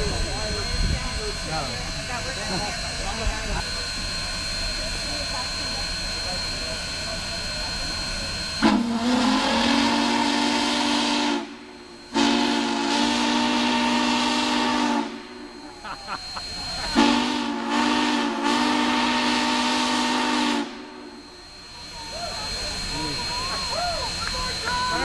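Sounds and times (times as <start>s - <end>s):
steam hissing: 0.0s - 25.0s
steam locomotive whistle: 3.6s - 25.0s.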